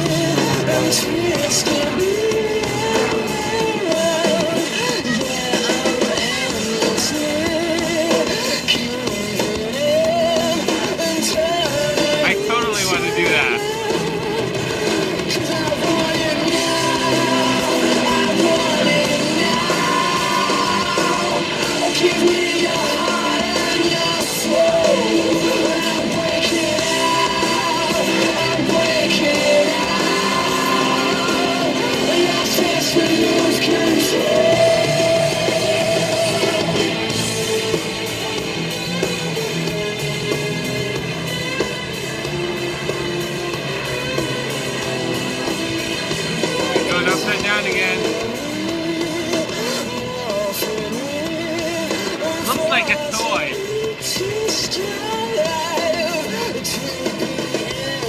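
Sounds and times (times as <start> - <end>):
rock song with singing and guitar: 0.0 - 58.0.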